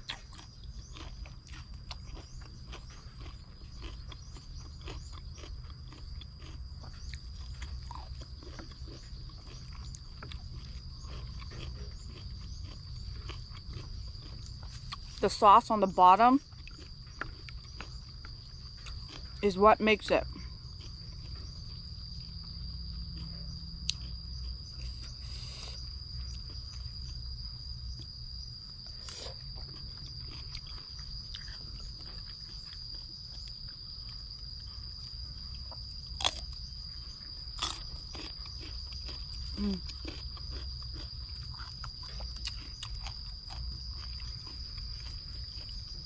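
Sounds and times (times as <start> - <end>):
person crunching salad: 0.0 - 15.4, 16.4 - 19.4, 20.6 - 28.0, 28.8 - 46.0
high insect drone: 0.0 - 46.0.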